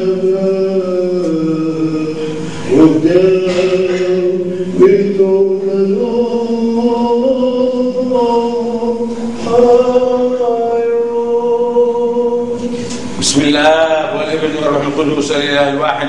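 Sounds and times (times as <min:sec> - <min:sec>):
male cantors chanting: 0:00.0 - 0:16.0.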